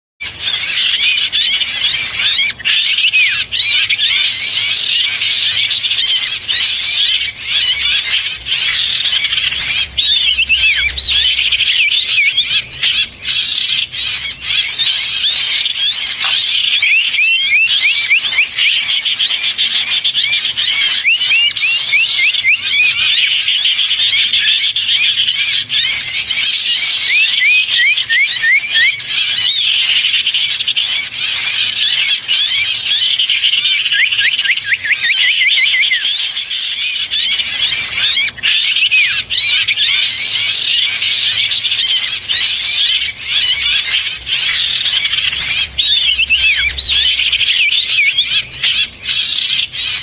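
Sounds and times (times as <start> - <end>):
small songbirds chirping: 0.2 - 50.0.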